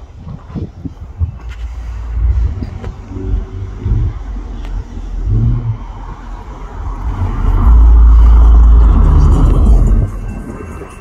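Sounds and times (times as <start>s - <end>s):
diesel locomotive engines running: 0.0s - 11.0s
loud low train rumble: 0.0s - 11.0s.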